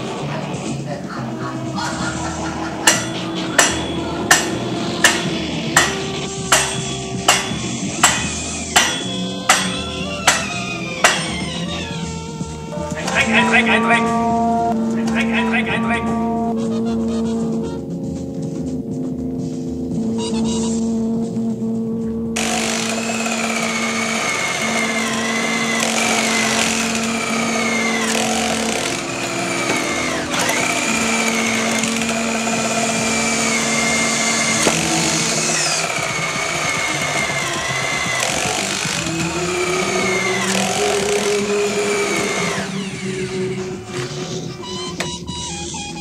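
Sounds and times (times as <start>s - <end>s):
background music with low notes: 0.0s - 46.0s
power drill running: 1.6s - 16.5s, 22.4s - 45.8s.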